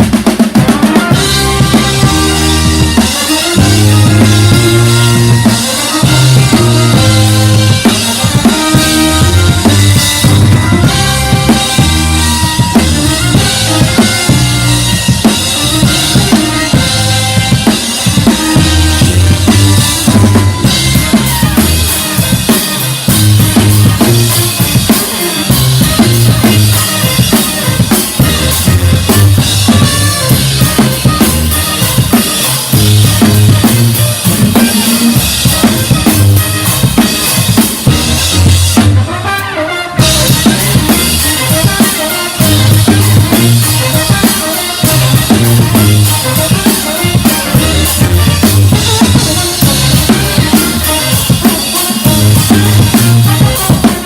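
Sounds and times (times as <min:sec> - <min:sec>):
drum kit beat: 0:00.0 - 0:54.0
horns playing: 0:00.0 - 0:54.0
low bass line: 0:01.1 - 0:24.8, 0:25.5 - 0:37.0, 0:37.9 - 0:39.1, 0:40.0 - 0:41.8, 0:42.4 - 0:44.2, 0:44.8 - 0:46.5, 0:47.4 - 0:51.2, 0:52.1 - 0:53.8.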